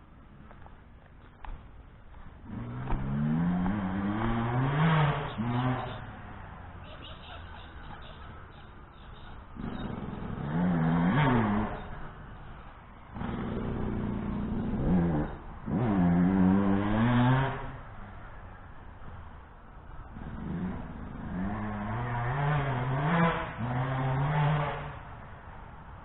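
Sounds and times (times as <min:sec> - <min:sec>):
motocross bike revving: 0:02.4 - 0:18.2, 0:20.1 - 0:26.0.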